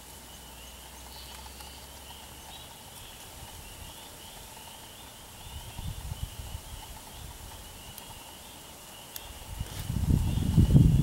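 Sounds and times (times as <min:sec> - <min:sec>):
distant chorus of high chirps: 0:00.0 - 0:11.0.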